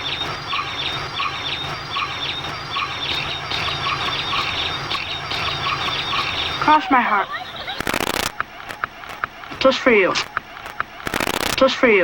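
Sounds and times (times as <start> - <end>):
low steady hum: 0.0 - 11.7
birds chirping: 0.0 - 12.0.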